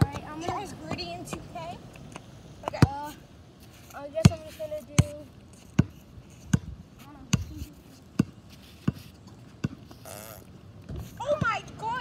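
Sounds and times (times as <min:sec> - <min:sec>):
basketball bouncing on pavement: 0:00.0 - 0:12.0.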